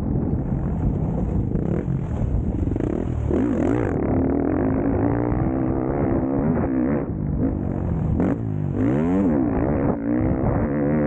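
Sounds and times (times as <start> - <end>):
motocross bike engine revving: 1.4 - 11.0.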